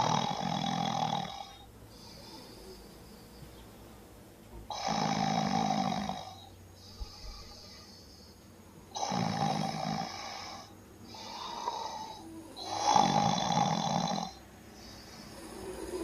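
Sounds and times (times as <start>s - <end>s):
woman snoring heavily: 0.0s - 2.8s, 4.7s - 8.2s, 8.9s - 16.0s.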